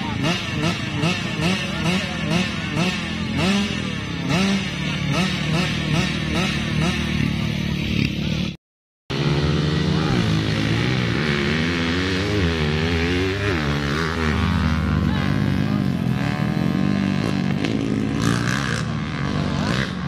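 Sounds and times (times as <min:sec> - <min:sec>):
motocross bikes accelerating away: 0:00.0 - 0:20.0
motocross bikes revving: 0:00.0 - 0:20.0.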